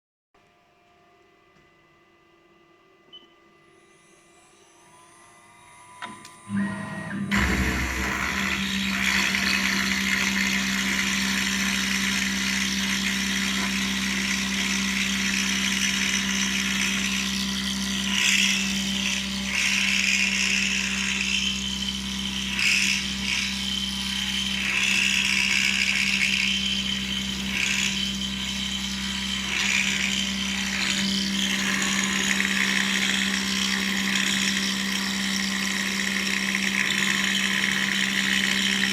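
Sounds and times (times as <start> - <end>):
milling machine humming: 3.1 - 38.9.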